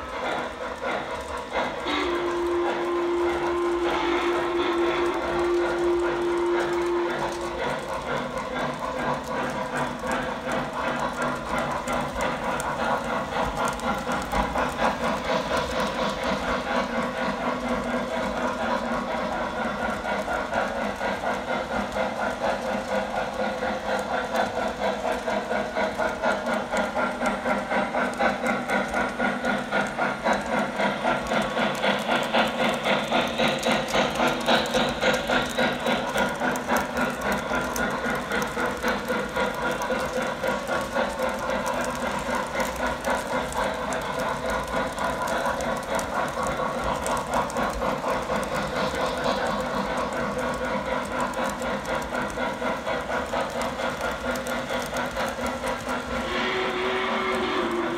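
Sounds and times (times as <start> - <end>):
fast pulsing clatter: 0.0 - 57.9
model train wheels and motors rumbling: 0.0 - 57.9.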